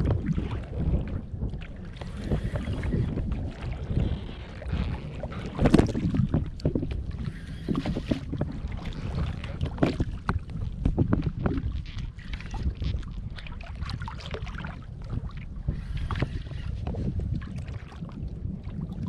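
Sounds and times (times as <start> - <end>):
water lapping against kayak hull: 0.0 - 19.0
wind buffeting microphone: 0.0 - 19.0.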